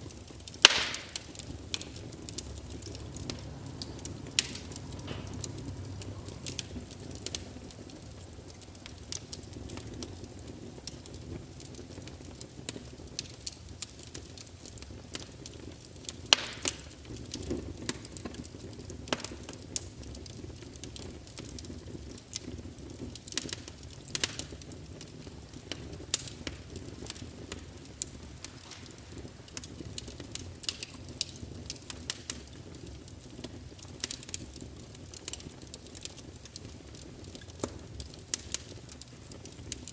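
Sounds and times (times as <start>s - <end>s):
low rumble of flame: 0.0s - 39.9s
wood crackling and popping: 0.0s - 39.9s.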